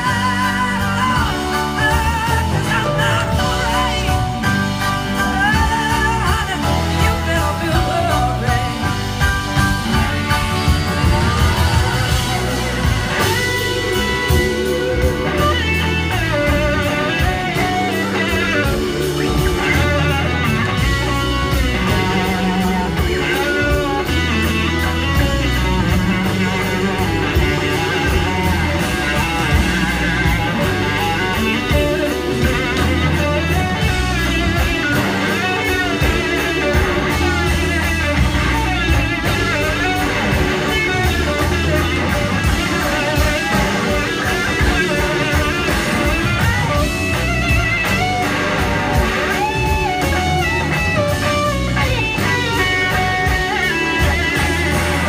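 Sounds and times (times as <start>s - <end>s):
electric guitar: 0.0s - 55.0s
live rock band playing: 0.0s - 55.0s.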